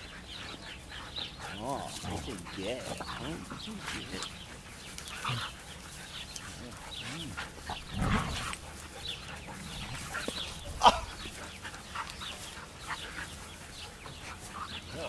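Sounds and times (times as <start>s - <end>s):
dogs scuffling: 1.5s - 15.0s.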